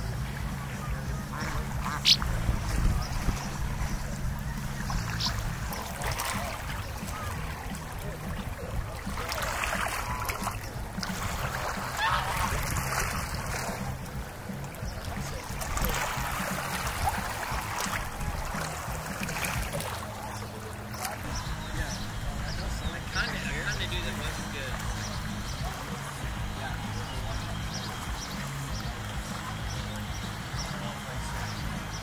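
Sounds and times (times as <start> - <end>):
faint voices: 0.0 - 32.0
water splashing against boat: 0.0 - 32.0.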